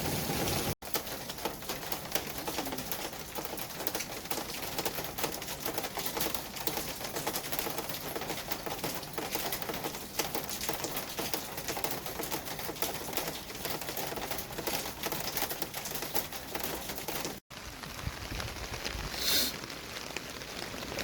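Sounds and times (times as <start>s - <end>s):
crackling patter of clicks: 0.8s - 19.0s.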